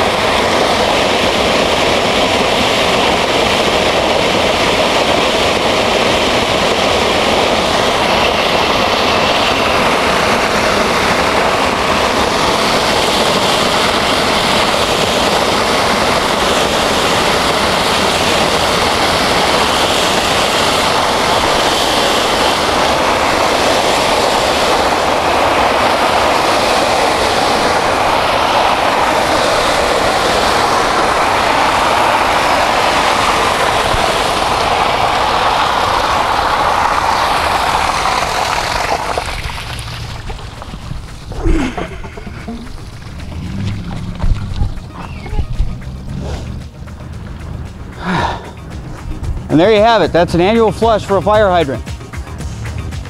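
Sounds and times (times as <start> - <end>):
water rushing from fire hydrant: 0.0 - 52.1.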